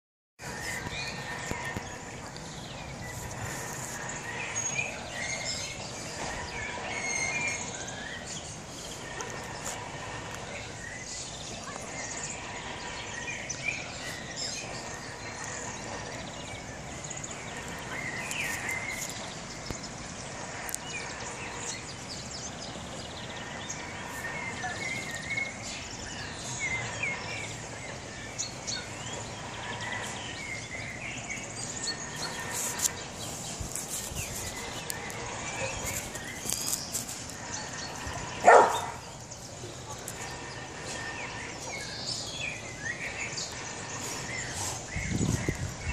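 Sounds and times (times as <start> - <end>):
birds chirping: 0.4 - 45.9
outdoor background noise: 0.4 - 45.9.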